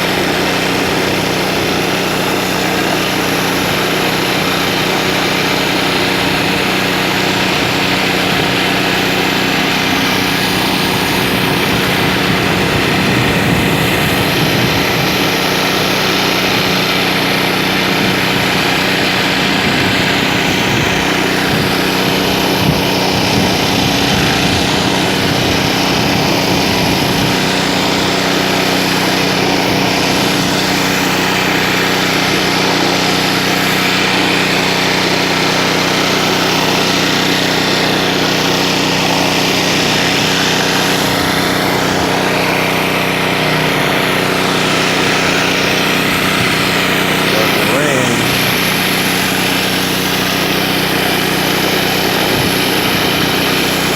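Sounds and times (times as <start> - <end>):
pressure washer running: 0.0 - 53.9
water jets hissing on concrete: 0.0 - 53.9.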